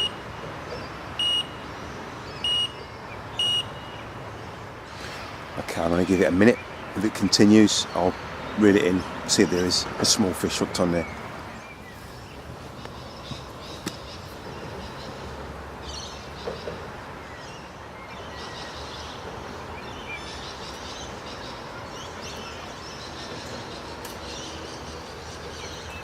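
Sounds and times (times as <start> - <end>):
outdoor background hiss: 0.0 - 26.0
small birds chirping: 0.0 - 26.0.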